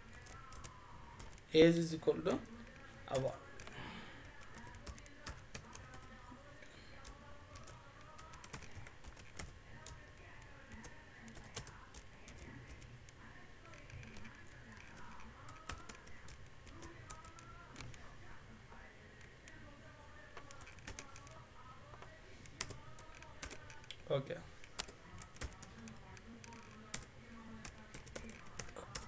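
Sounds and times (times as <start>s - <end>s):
computer keyboard typing: 0.0s - 1.4s, 2.5s - 12.9s, 13.6s - 18.1s, 20.3s - 24.0s, 24.6s - 29.0s.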